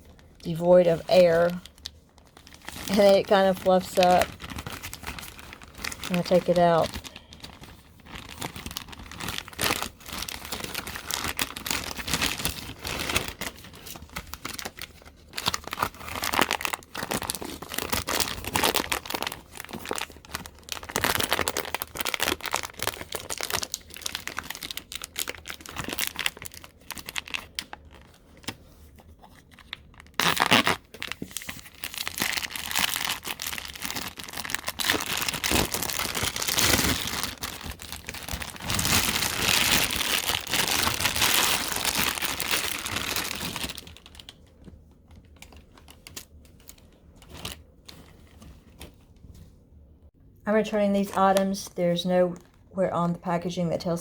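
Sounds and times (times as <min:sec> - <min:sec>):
plastic packaging crinkling: 0:00.0 - 0:49.1.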